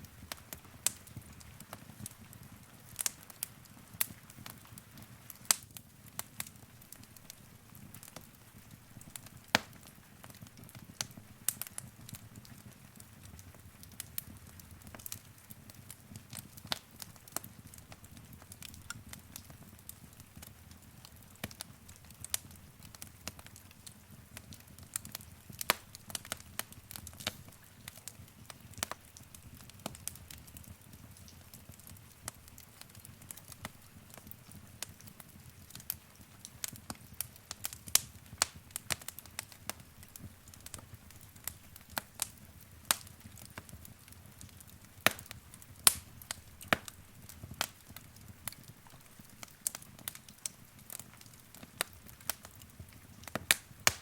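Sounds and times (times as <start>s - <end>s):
low rumble of fire: 0.0s - 54.0s
wood fire crackling and popping: 0.0s - 54.0s.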